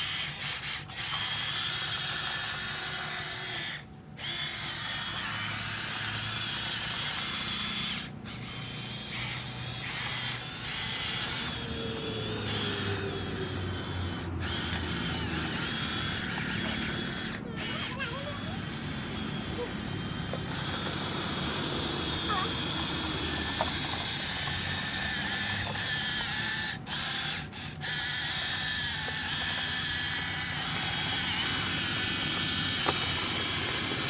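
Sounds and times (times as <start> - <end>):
toy truck electric motor whining: 0.0 - 34.0.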